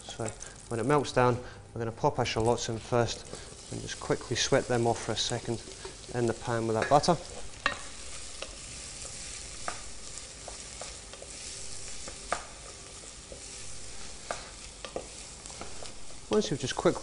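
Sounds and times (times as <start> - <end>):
shallots sizzling in butter: 0.0 - 17.0.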